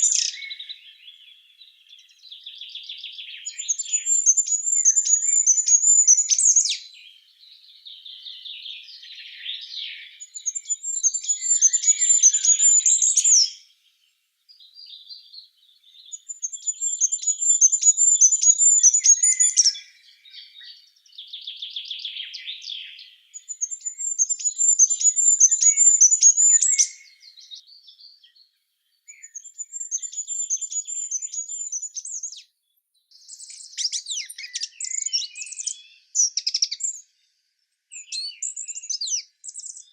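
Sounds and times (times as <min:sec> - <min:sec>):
birds twittering: 0:00.0 - 0:32.5, 0:33.1 - 0:37.3, 0:37.9 - 0:39.9.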